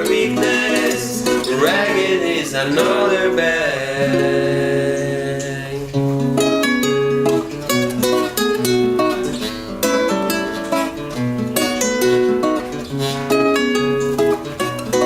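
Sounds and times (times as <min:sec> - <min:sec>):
acoustic guitar strumming and plucking: 0:00.0 - 0:15.0.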